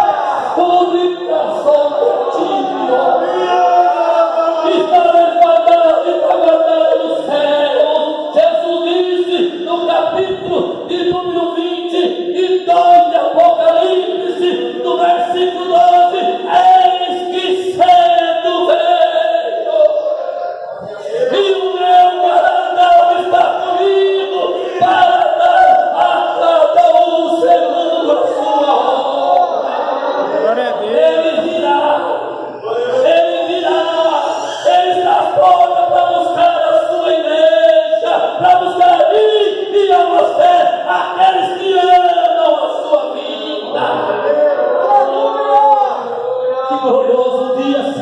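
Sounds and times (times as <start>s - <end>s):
man chanting through loudspeakers: 0.0s - 29.6s, 30.3s - 48.0s.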